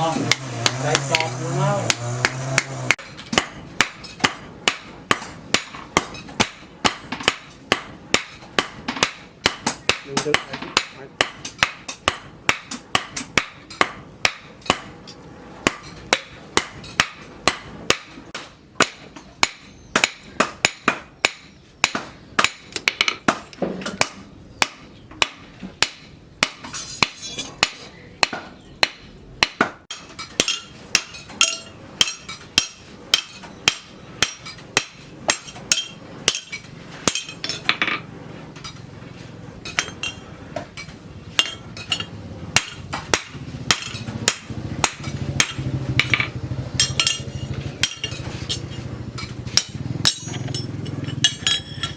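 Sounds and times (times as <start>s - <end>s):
hammer striking steel: 0.0s - 38.8s, 39.6s - 40.2s, 40.8s - 51.9s.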